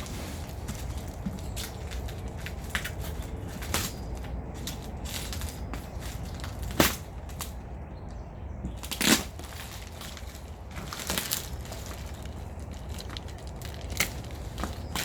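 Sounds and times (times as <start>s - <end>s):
packing crackling and snapping: 0.0s - 7.6s, 8.7s - 15.0s.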